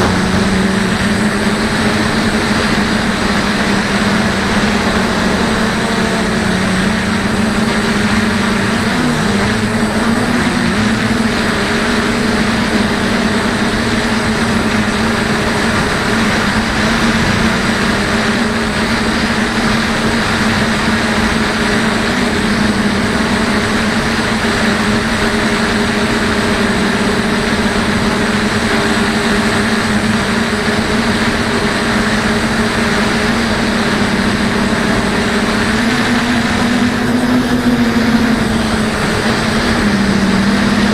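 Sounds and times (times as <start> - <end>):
drone motors humming: 0.0 - 40.9.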